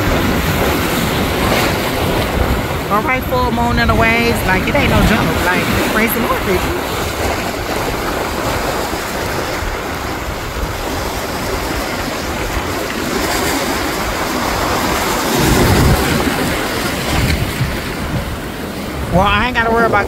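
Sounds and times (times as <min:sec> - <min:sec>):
foamy water washing in: 0:00.0 - 0:19.1
ocean surf breaking on rocks: 0:00.0 - 0:20.0.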